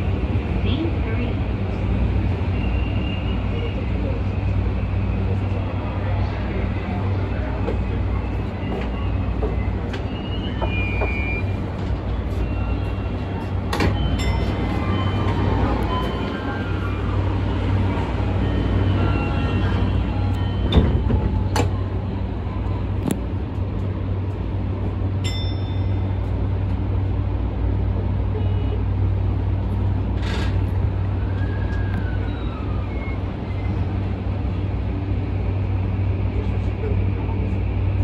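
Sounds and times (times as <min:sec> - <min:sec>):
train equipment low hum: 0:00.0 - 0:38.0.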